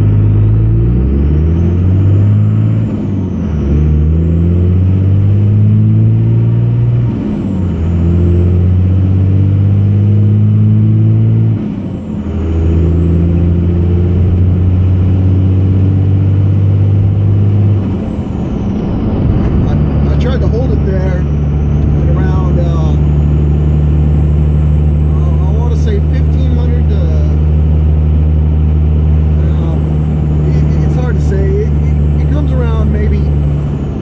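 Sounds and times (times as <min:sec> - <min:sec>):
diesel engine pulling under load: 0:00.0 - 0:34.0.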